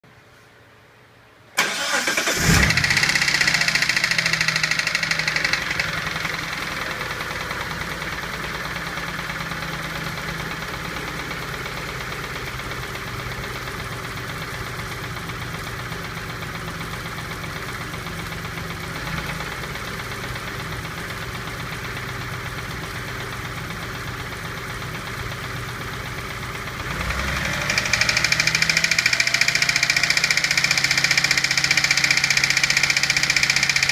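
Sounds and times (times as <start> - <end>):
car engine starting and idling: 1.6 - 33.9
engine knocking: 2.7 - 33.9.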